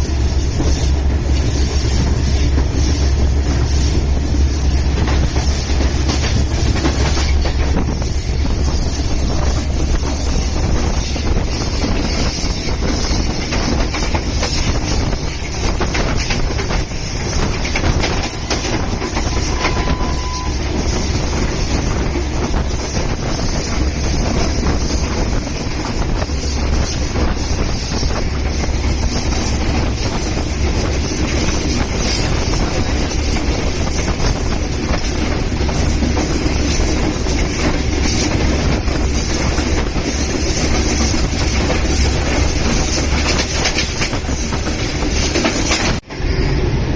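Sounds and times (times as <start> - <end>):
train wheels clickety-clack: 0.0 - 46.9.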